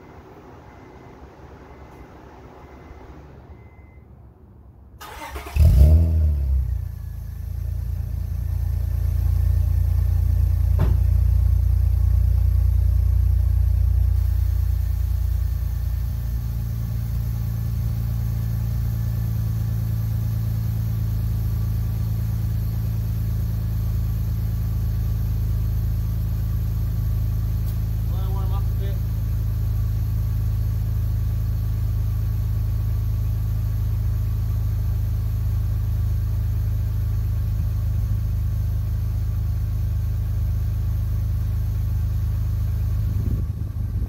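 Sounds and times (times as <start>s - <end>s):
car engine starting and idling: 0.0s - 44.0s.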